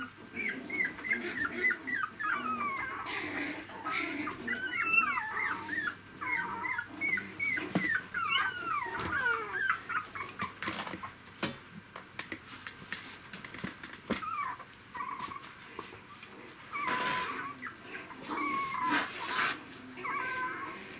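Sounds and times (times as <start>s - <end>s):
puppies whimpering: 0.0s - 11.2s, 14.1s - 15.5s, 16.1s - 20.9s.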